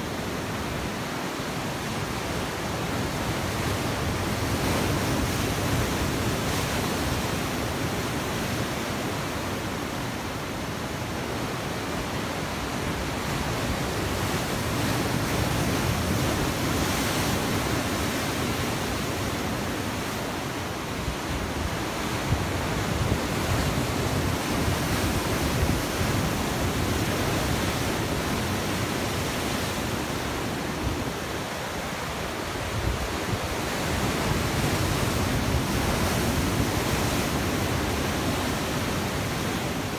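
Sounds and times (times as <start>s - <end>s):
sea waves breaking over rocks: 0.0s - 39.9s.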